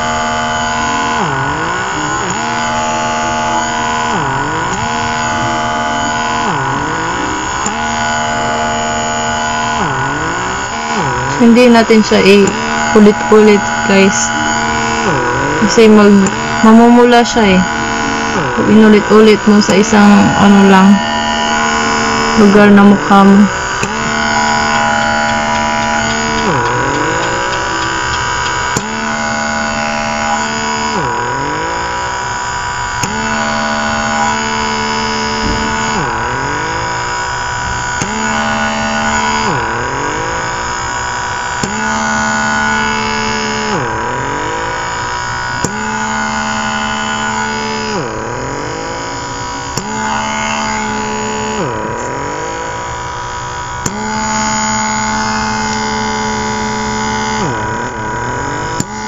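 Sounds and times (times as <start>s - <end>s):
small suction pump humming: 0.0s - 59.0s.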